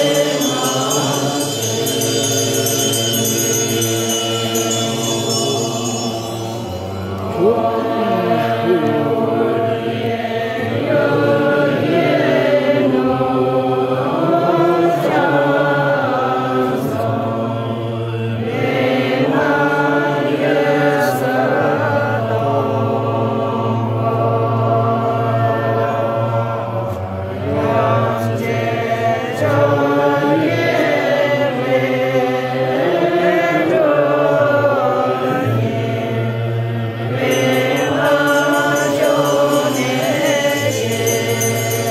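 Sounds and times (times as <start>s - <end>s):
congregation chanting prayers: 0.0s - 41.9s.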